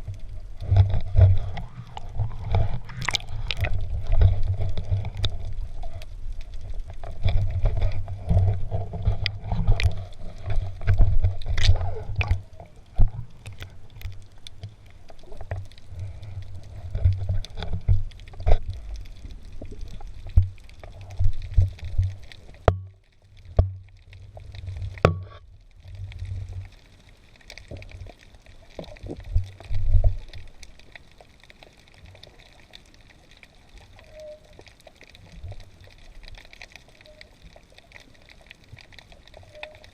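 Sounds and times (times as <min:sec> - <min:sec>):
sharp clicks and crackles: 0:00.0 - 0:39.9
underwater rumble: 0:00.0 - 0:39.9.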